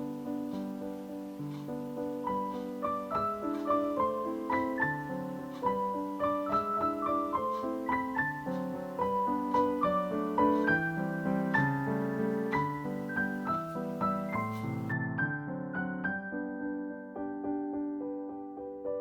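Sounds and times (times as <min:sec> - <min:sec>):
gentle solo piano tune: 0:00.0 - 0:19.0.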